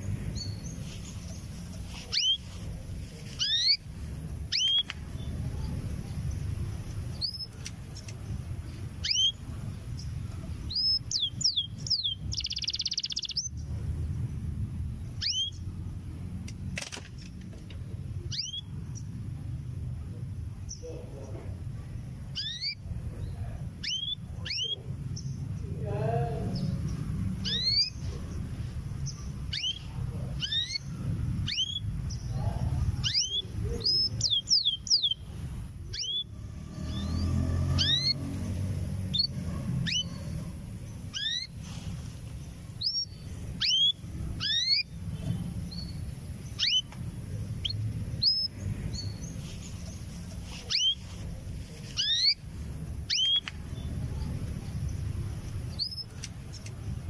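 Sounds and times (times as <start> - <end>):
canary chirping: 0.0 - 13.7, 15.0 - 15.8, 18.2 - 19.2, 22.2 - 25.6, 26.5 - 57.0.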